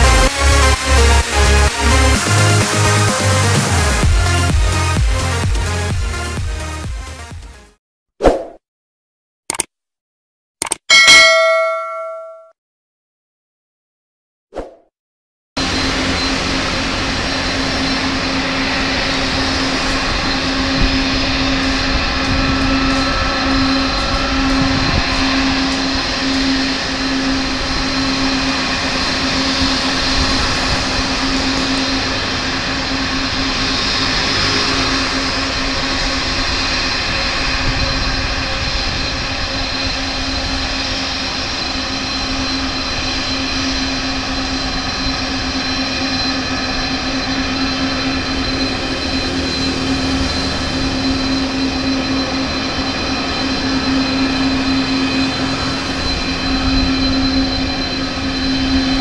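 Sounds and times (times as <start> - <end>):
jet engines running: 0.0 - 7.8, 15.6 - 59.0.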